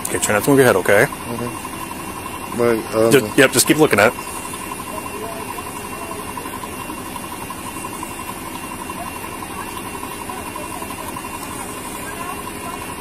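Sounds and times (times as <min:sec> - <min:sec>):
faint fast-pulsing tone: 0:00.0 - 0:13.0
vehicle engines idling: 0:00.0 - 0:13.0.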